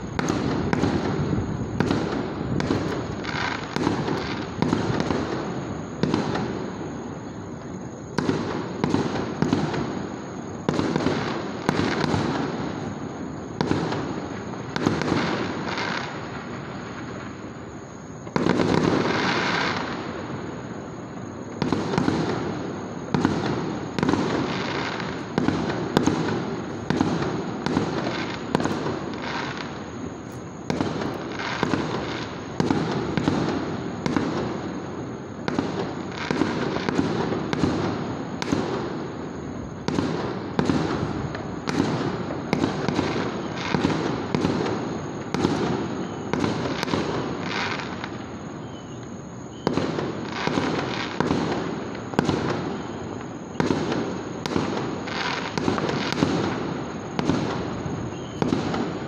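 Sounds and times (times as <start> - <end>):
fireworks bangs echoing: 0.0 - 59.0.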